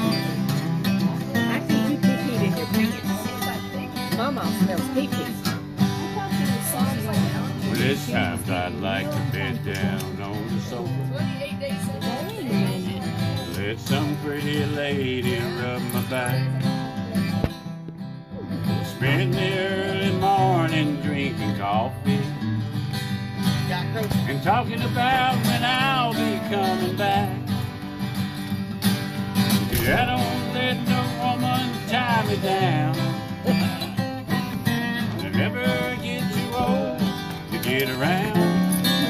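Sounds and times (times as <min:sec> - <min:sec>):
acoustic guitars country tune: 0:00.0 - 0:39.0.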